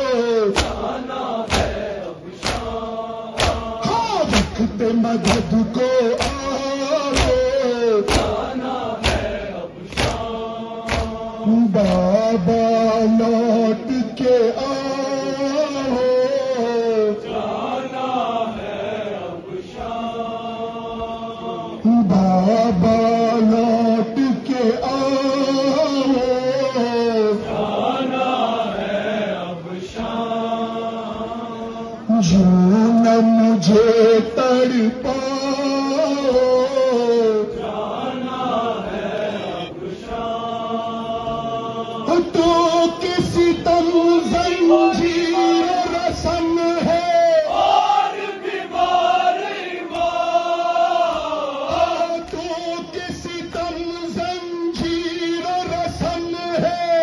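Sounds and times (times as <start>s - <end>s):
men chanting a lament: 0.0s - 57.0s.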